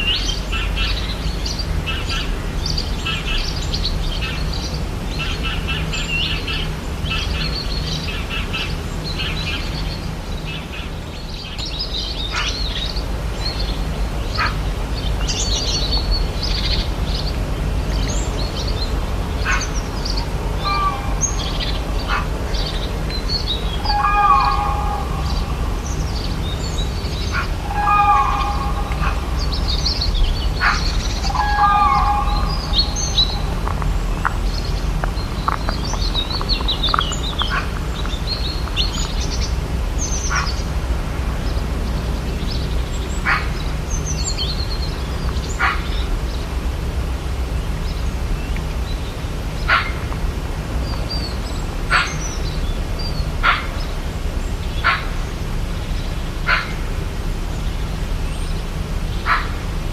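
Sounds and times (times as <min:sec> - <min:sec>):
birds chirping and trilling: 0:00.0 - 0:59.9
steady low rumble: 0:00.0 - 0:59.9.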